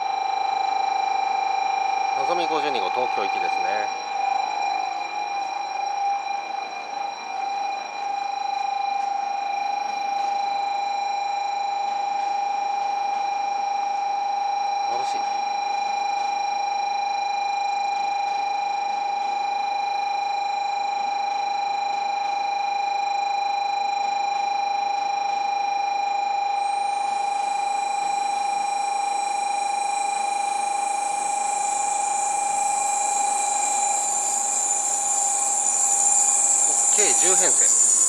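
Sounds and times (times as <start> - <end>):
electronic buzzer tone: 0.0 - 38.0.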